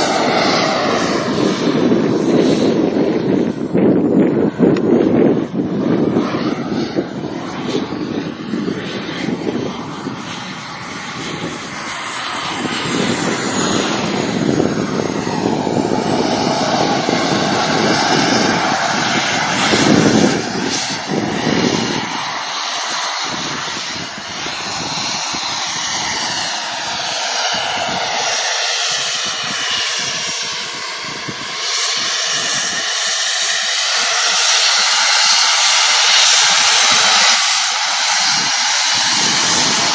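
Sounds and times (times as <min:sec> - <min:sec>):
fighter jet flying past: 0:00.0 - 0:39.9.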